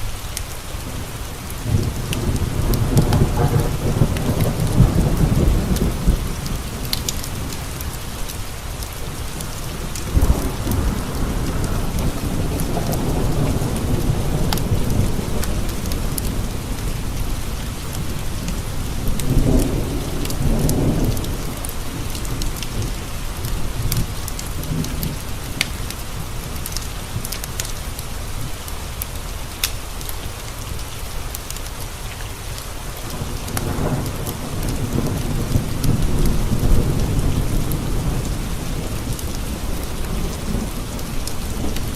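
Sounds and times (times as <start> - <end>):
rain on windowpanes: 0.0 - 41.9
rolling thunder: 0.9 - 27.4, 33.0 - 41.9.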